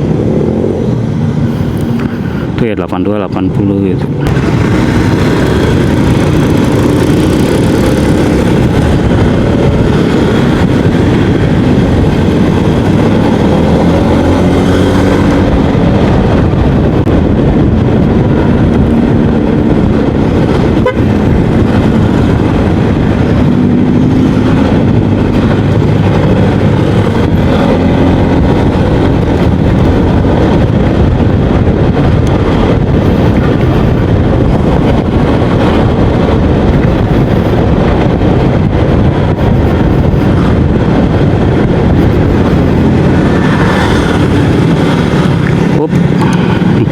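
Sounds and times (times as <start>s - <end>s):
road noise: 0.0s - 46.9s
scooter engine running: 4.2s - 46.9s.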